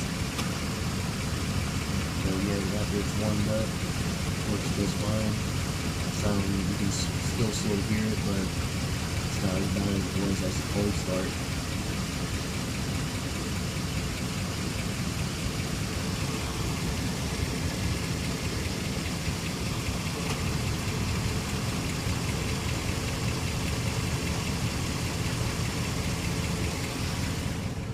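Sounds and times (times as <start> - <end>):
car engine idling: 0.0 - 27.9
faint noise under engine: 0.0 - 27.9.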